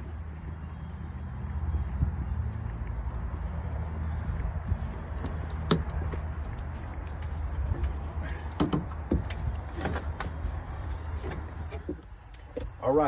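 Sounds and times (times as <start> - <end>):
steady low rumble: 0.0 - 12.1.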